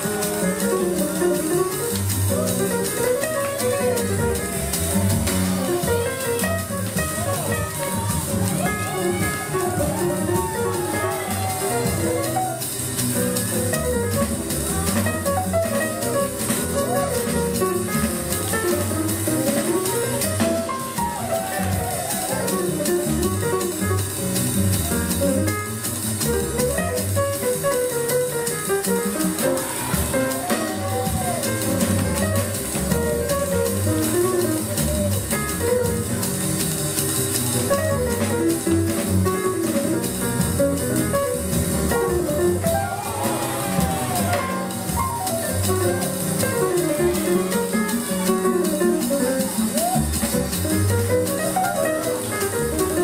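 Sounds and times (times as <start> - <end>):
jazzy dance music: 0.0 - 53.0.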